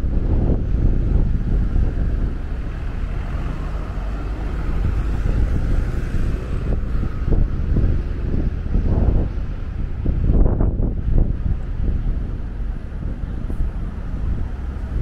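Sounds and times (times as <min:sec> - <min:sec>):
vehicle passing: 0:00.0 - 0:10.8, 0:11.5 - 0:15.0
street traffic: 0:00.0 - 0:15.0
wind buffeting microphone: 0:00.0 - 0:15.0.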